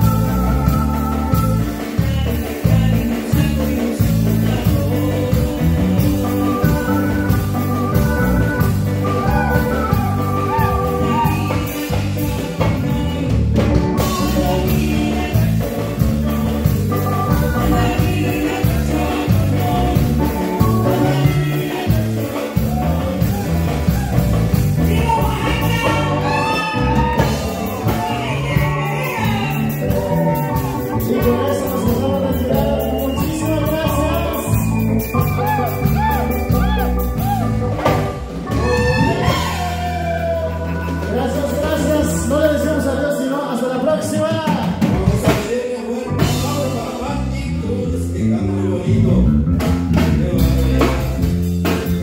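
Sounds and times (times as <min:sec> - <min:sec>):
electronic keyboards playing: 0:00.0 - 0:44.6
rhythmic bass: 0:00.0 - 0:52.0.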